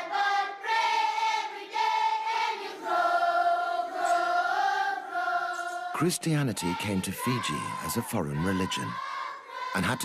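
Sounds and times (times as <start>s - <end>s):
choir singing long notes: 0.0s - 10.0s.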